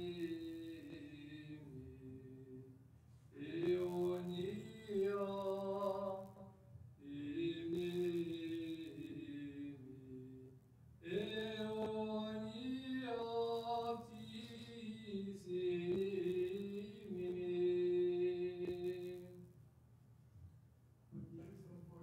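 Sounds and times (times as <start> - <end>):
man chanting unaccompanied: 0.0 - 2.7, 3.4 - 6.4, 7.0 - 19.4.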